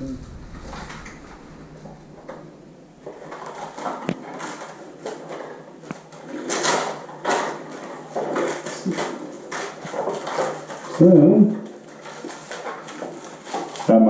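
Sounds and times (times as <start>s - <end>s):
packaging rustling: 0.7s - 13.9s.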